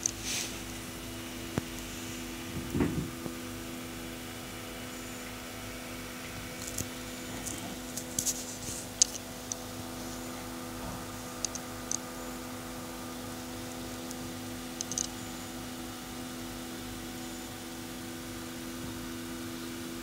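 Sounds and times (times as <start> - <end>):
desktop pc humming: 0.0 - 20.0.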